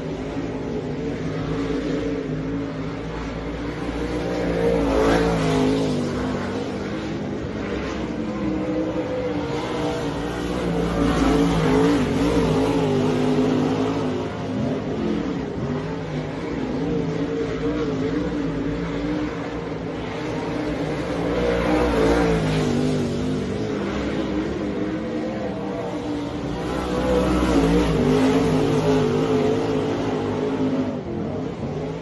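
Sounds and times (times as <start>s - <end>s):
race car engines: 0.0s - 32.0s.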